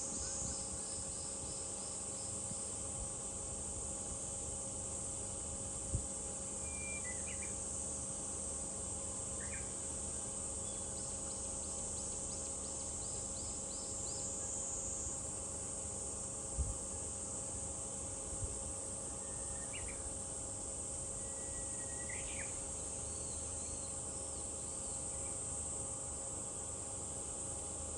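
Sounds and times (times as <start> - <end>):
cicadas buzzing: 0.0 - 27.9.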